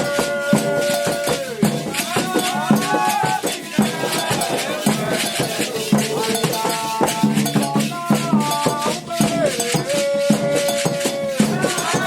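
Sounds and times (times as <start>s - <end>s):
bell: 0.0s - 12.0s
percussion strikes: 0.0s - 12.0s.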